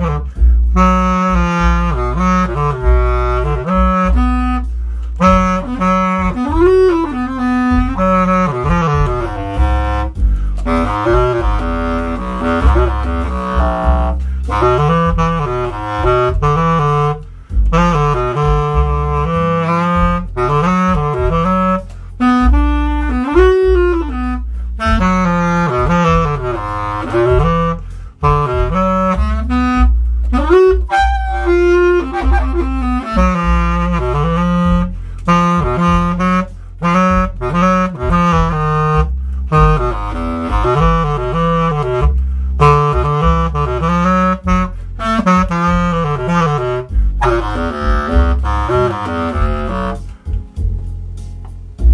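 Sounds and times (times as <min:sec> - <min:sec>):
bass clarinet jazz-blues line: 0:00.0 - 0:51.9.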